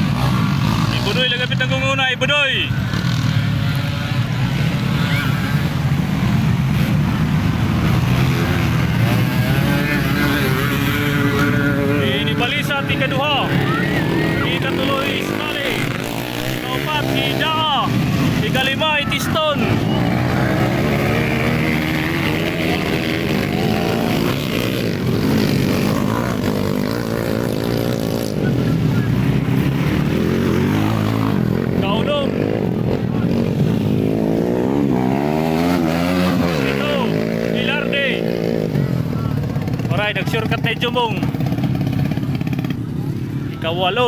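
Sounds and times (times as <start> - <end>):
dirt bike engines racing: 0.0 - 44.0.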